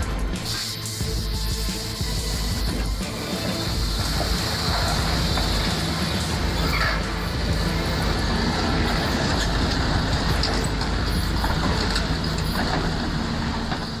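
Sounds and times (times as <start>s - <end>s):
diesel engine humming: 0.0s - 14.0s
loud mechanical noise: 0.0s - 14.0s.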